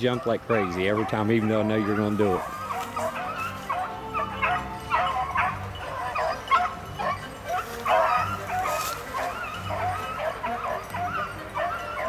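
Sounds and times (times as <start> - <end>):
beagles baying: 0.0 - 12.0.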